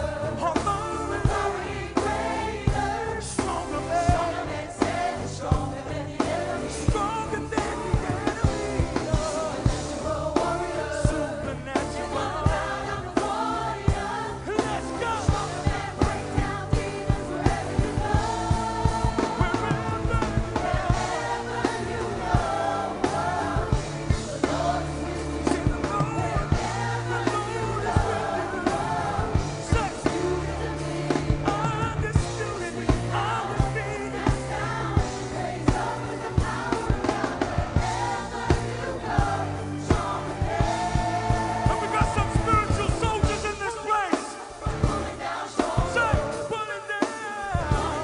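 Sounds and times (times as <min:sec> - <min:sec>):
bass line: 0:00.0 - 0:43.8
drum beats: 0:00.0 - 0:48.0
gospel band music: 0:00.0 - 0:48.0
group singing: 0:00.0 - 0:48.0.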